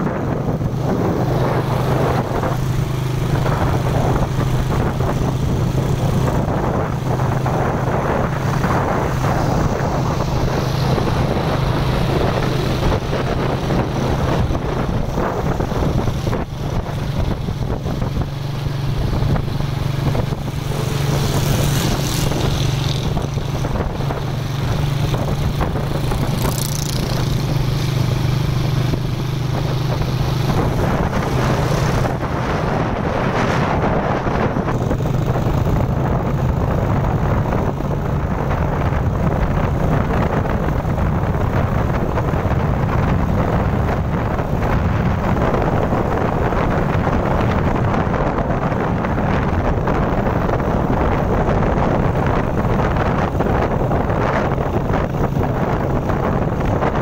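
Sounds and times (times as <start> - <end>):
road noise: 0.0 - 57.0
vehicle engine drone: 0.0 - 57.0.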